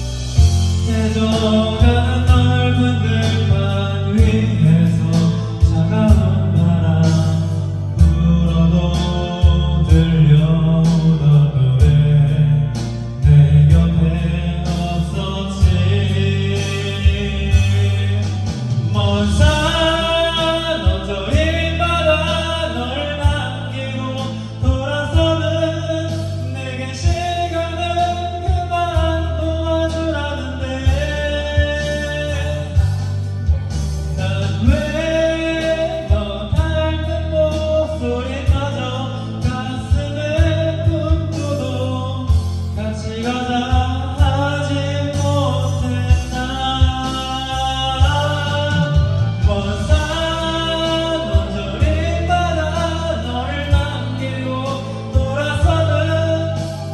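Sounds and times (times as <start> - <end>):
bass line and beat: 0.0 - 56.9
person singing: 0.0 - 56.9.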